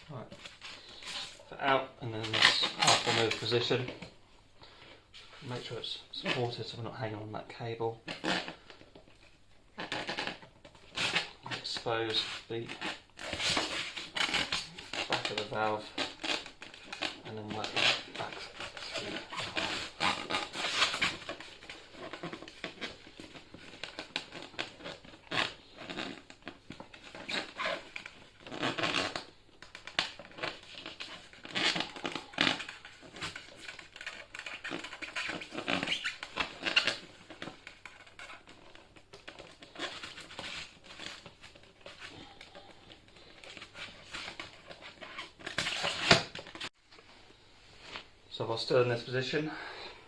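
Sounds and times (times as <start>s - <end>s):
rubber tyre rubbing and crinkling: 0.0s - 4.2s, 5.1s - 46.8s.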